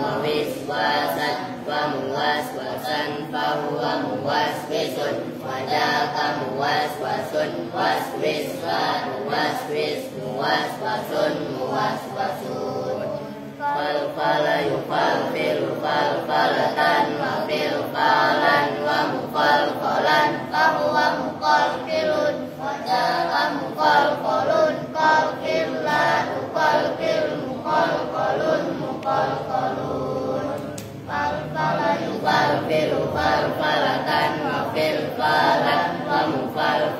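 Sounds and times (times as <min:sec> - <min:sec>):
boys chanting in unison: 0:00.0 - 0:36.9.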